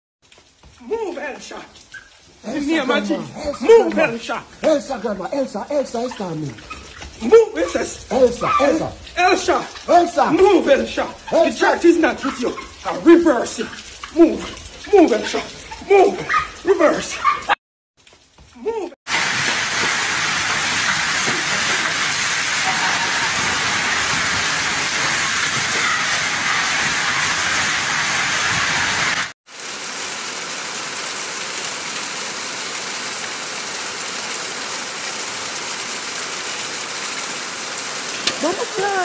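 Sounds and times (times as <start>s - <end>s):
floodwater rushing: 0.2s - 17.6s, 18.2s - 39.0s
heavy rain on a street: 0.2s - 39.0s.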